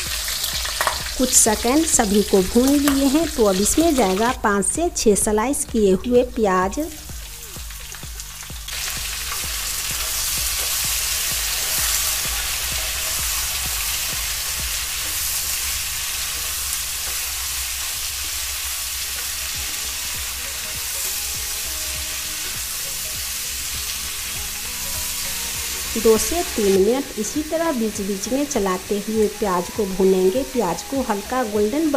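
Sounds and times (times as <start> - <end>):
onions sizzling in hot oil: 0.0 - 31.9.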